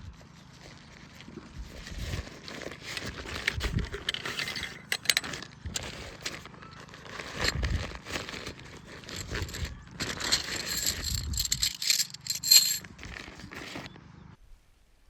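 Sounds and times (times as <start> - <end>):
rustling and crinkling: 0.0 - 14.0.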